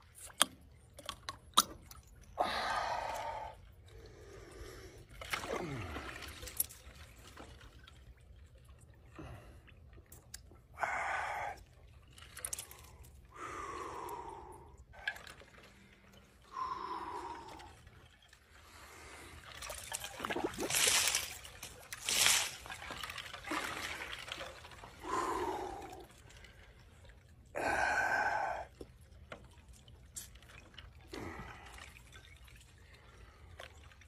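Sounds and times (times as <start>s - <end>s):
water splashing and trickling: 0.0s - 34.0s.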